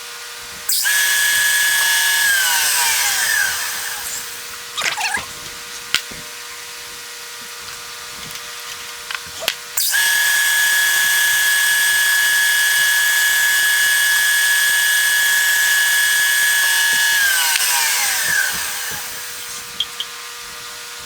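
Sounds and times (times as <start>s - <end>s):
power tool motor whining: 0.4s - 21.0s.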